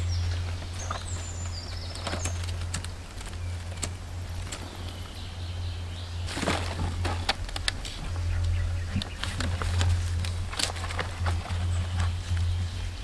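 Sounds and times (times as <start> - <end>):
leaves and twigs rustling: 0.0 - 13.0
steady low hum: 0.0 - 13.0.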